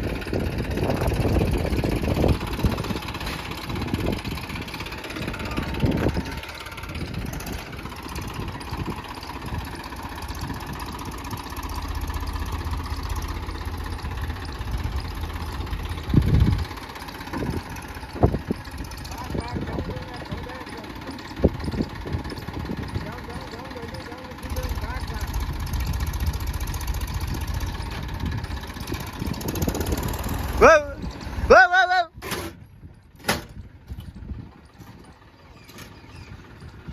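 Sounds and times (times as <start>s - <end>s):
diesel tractor engine running: 0.0s - 36.9s.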